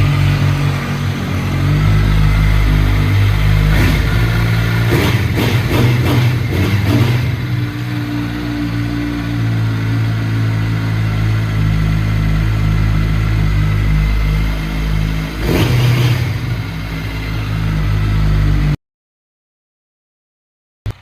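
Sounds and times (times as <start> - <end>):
motorcycle engine idling: 0.0 - 18.7.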